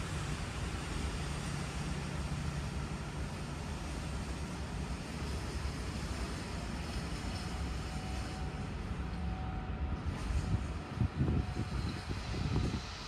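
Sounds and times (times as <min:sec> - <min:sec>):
train rumbling and humming: 0:00.0 - 0:13.0.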